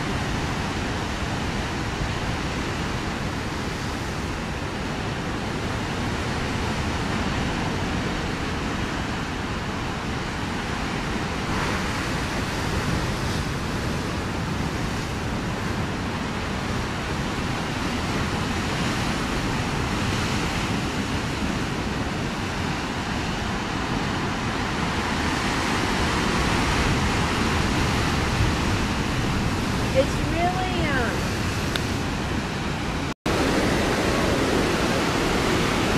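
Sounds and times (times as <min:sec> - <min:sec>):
ocean surf on rocks: 0:00.0 - 0:35.9.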